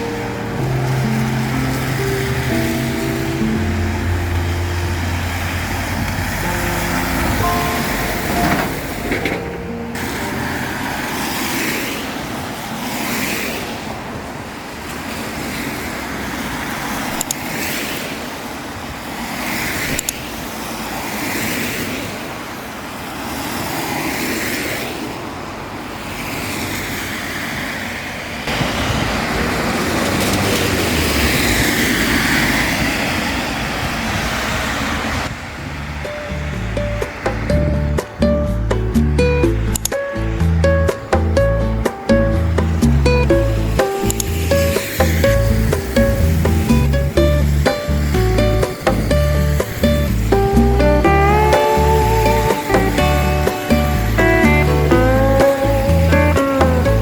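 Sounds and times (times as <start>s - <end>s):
tyres hissing on wet road: 0.0s - 9.4s, 10.0s - 57.0s
steady traffic rumble: 0.0s - 57.0s.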